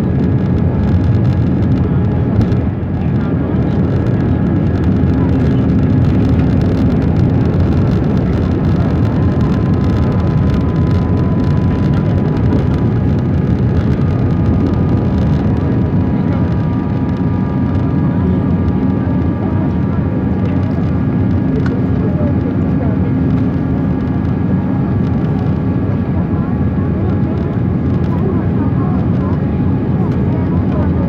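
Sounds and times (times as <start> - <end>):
airplane cabin engine rush: 0.0 - 31.0
faint engine whine: 0.0 - 31.0.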